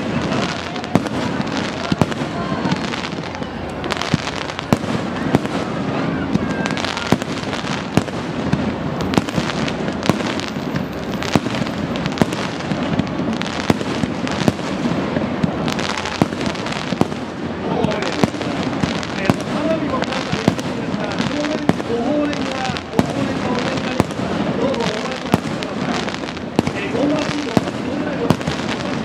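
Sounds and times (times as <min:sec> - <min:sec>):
continuous wash of noise: 0:00.0 - 0:29.0
fireworks bangs: 0:00.0 - 0:29.0.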